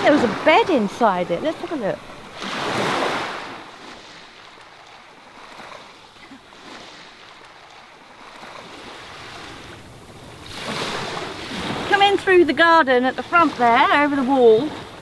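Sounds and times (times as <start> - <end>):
small waves washing on sand: 0.0 - 15.0.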